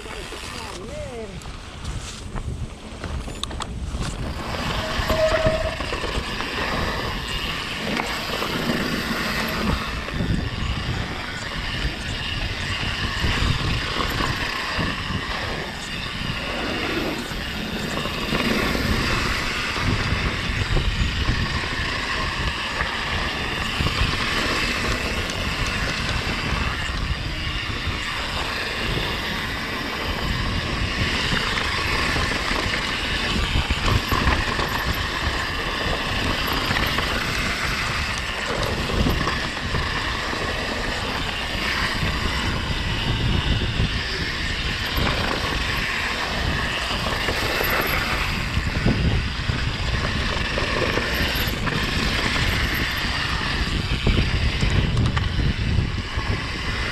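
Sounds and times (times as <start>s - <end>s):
wind and tyre noise: 0.0s - 56.9s.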